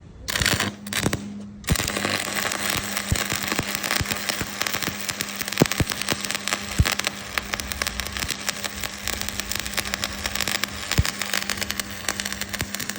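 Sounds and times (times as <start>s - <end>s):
low steady hum: 0.0s - 12.9s
welding arc crackling and popping: 0.3s - 12.9s.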